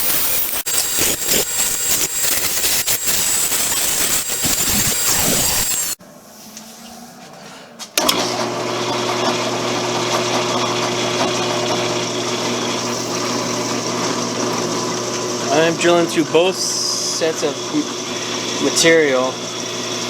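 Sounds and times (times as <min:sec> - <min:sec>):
electric drill motor humming: 0:00.0 - 0:06.0, 0:08.0 - 0:20.0
loud power tool: 0:00.0 - 0:06.0, 0:08.0 - 0:20.0.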